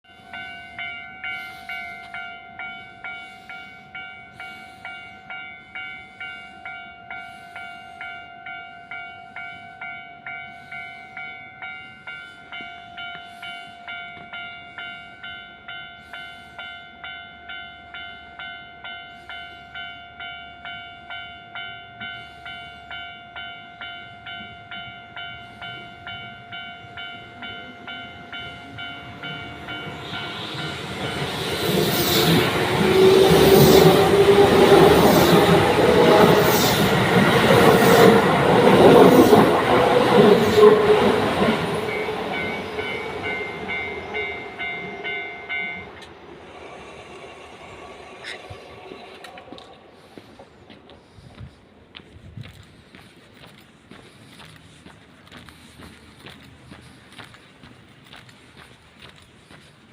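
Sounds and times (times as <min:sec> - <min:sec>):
level-crossing warning bell: 0:00.0 - 0:51.4
train approaching: 0:00.0 - 0:59.9.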